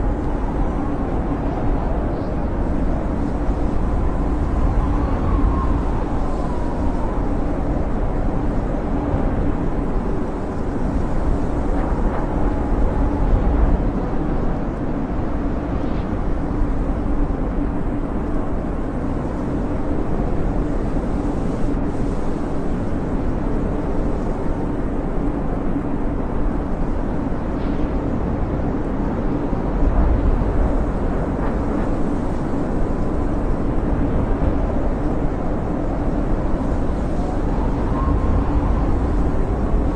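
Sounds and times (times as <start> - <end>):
wind howling: 0.0 - 39.9.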